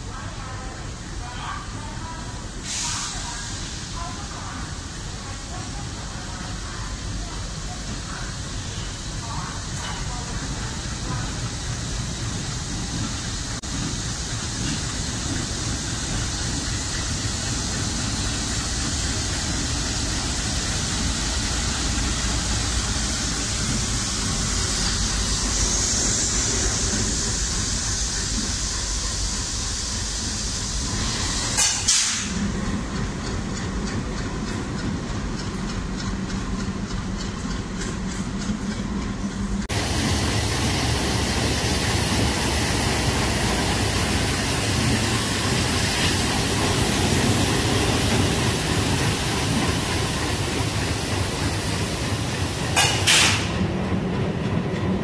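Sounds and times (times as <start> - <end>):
diesel locomotive rumbling: 0.0 - 55.0.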